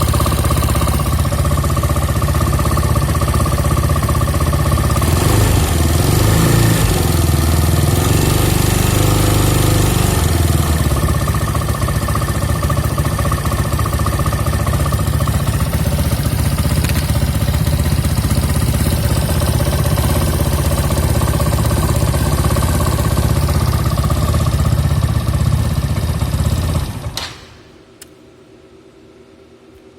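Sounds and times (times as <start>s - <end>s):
scooter engine idling: 0.0s - 27.4s.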